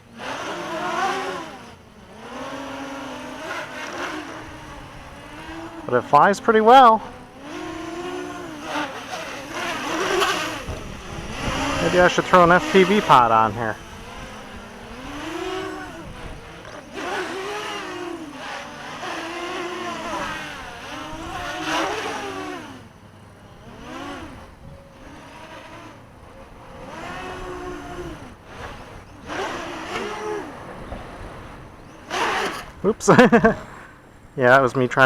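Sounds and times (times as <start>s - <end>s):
quadcopter motors whining: 0.0s - 35.0s.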